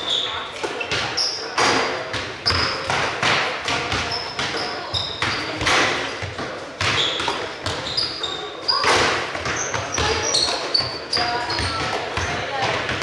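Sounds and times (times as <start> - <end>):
basketballs bouncing on wooden floor: 0.0 - 13.0
sneakers squeaking: 0.0 - 13.0.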